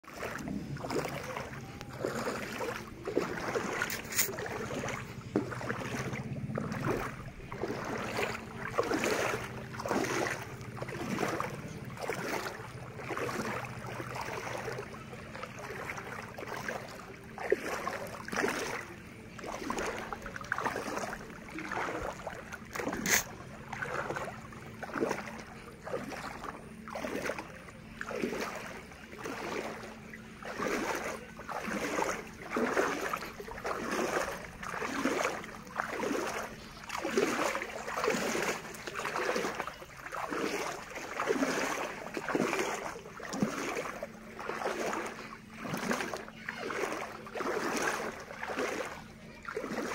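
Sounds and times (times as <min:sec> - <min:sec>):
water swishing and splashing: 0:00.0 - 0:49.9.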